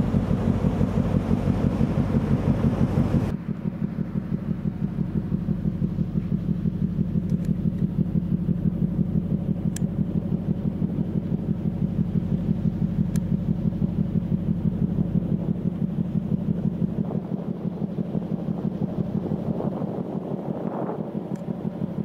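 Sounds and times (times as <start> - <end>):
ferry diesel engine throbbing: 0.0 - 22.0.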